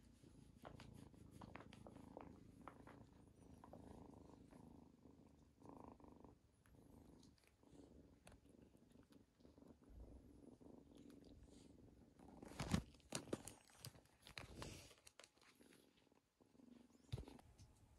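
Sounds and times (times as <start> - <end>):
kitten purring: 0.0 - 17.9.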